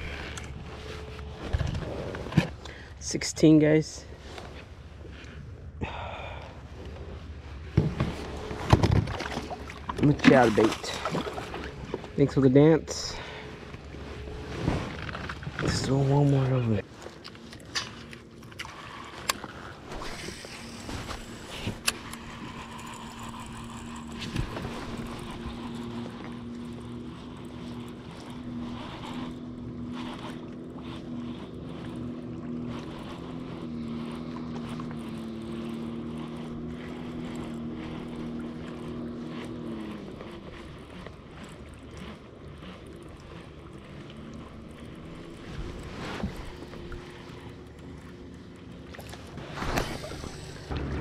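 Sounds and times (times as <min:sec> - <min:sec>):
electric trolling motor humming: 0:00.0 - 0:51.0.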